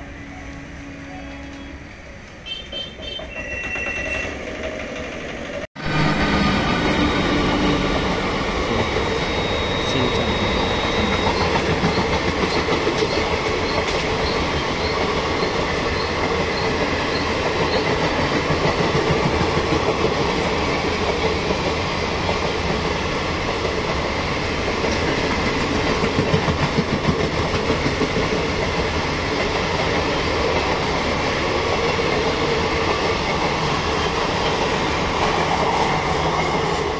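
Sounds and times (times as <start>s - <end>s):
train coaches rattling past: 0.0s - 36.9s.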